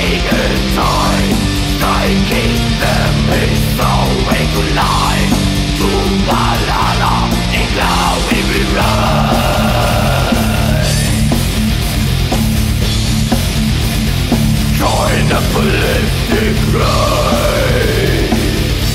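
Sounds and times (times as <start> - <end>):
distorted electric guitars: 0.0 - 18.9
fast drumming: 0.0 - 18.9.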